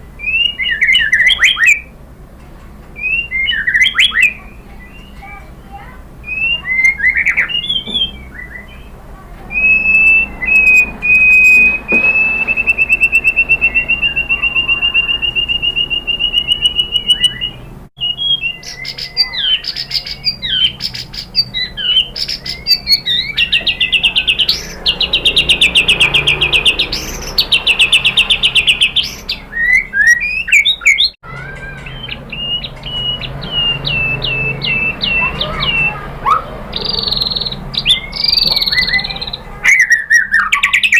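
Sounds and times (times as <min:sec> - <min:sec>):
songbird whistling and trilling: 0:00.1 - 0:01.9, 0:03.0 - 0:40.9.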